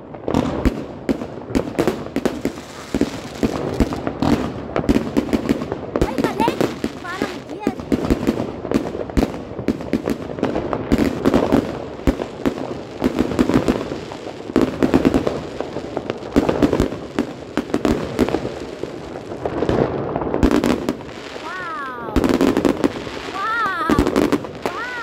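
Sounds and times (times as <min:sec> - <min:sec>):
fireworks bangs and crackles: 0:00.0 - 0:25.0
rumble of distant fireworks: 0:00.0 - 0:25.0.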